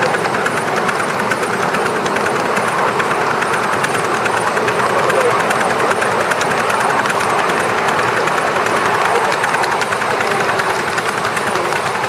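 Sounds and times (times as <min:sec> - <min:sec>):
miniature train running noise: 0:00.0 - 0:12.0
rapid faint clicks: 0:00.0 - 0:12.0.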